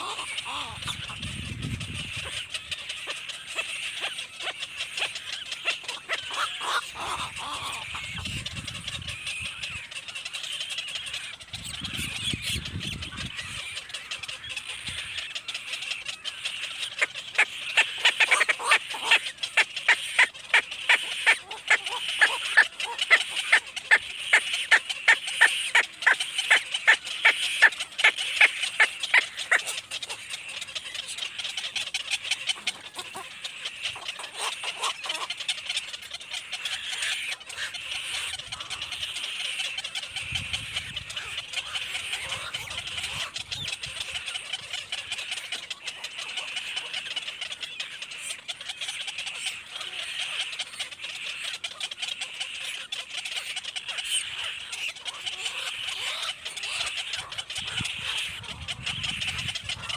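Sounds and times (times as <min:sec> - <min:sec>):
baby birds chirping: 0:00.0 - 0:59.9.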